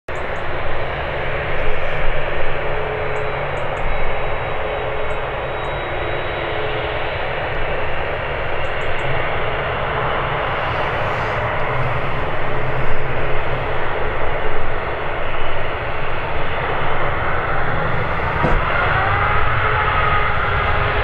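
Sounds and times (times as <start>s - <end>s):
jet engines whining at taxi: 0.1s - 21.0s.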